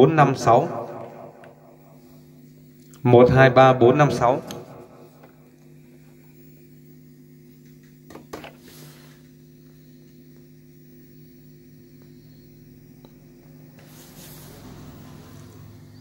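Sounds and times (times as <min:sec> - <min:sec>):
low electrical hum from speakers: 0:00.0 - 0:16.0.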